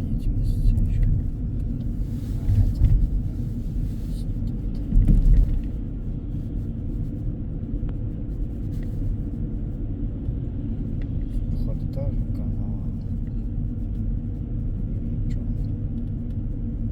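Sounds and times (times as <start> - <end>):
road rumble inside moving car: 0.0 - 16.9.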